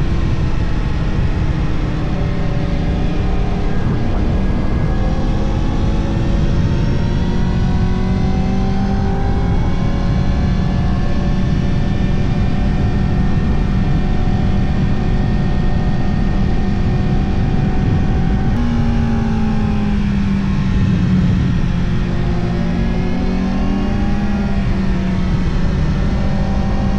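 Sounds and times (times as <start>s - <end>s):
motorcycle engine revving: 0.0s - 26.9s
wind noise: 0.0s - 26.9s.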